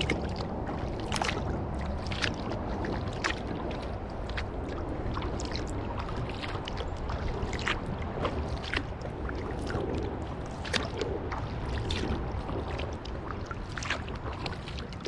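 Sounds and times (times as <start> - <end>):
kayak paddle pulling through water: 0.0 - 15.0
steady low rumble: 0.0 - 15.0
water drips and small splashes: 0.0 - 15.0.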